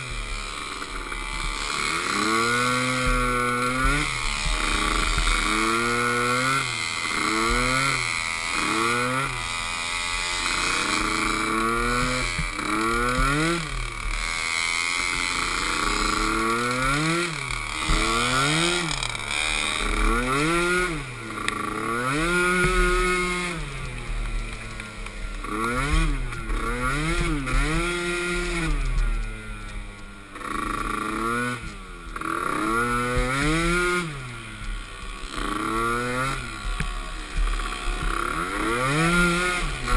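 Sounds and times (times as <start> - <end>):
atv engines revving: 0.0 - 39.9.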